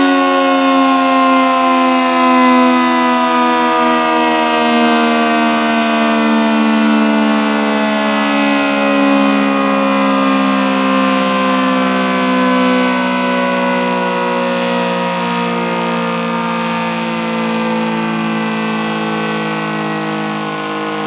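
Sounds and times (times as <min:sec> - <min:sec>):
warning siren wailing: 0:00.0 - 0:21.0.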